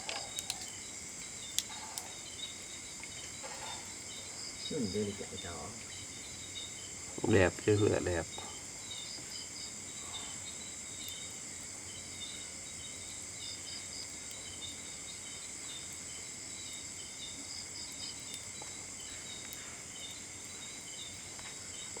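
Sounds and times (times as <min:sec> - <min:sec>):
crickets and insects trilling: 0:00.0 - 0:22.0.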